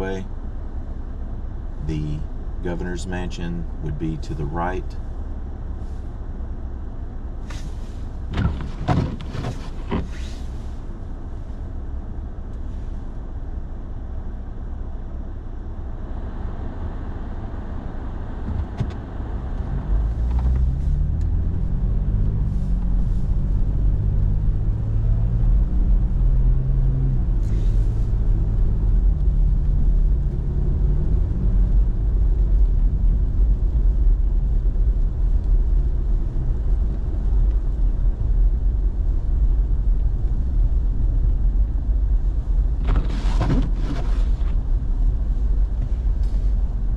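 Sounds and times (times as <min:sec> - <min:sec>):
road noise inside cab: 0:00.0 - 0:46.9.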